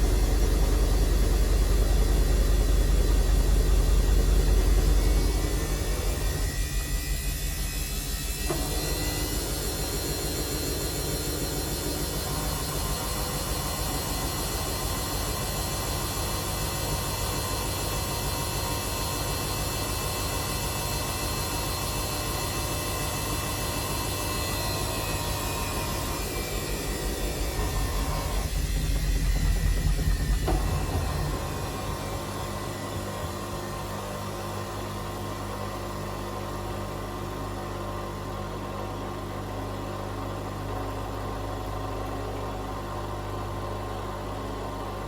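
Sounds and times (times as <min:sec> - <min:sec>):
washing machine drum whirring: 0:00.0 - 0:45.0.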